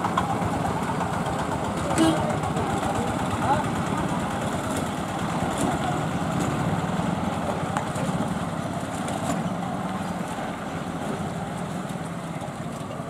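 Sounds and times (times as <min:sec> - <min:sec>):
vehicles passing slowly: 0:00.0 - 0:13.0.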